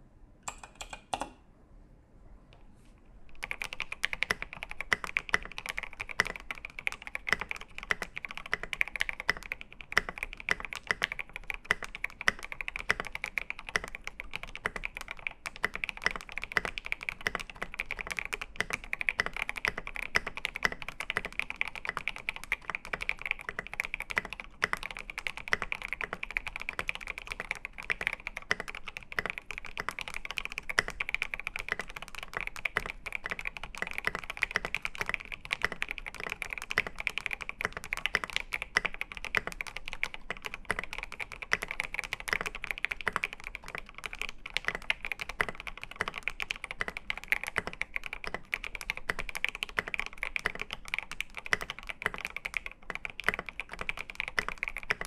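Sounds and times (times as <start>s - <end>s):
fast typing on mechanical keyboard: 3.3s - 55.0s.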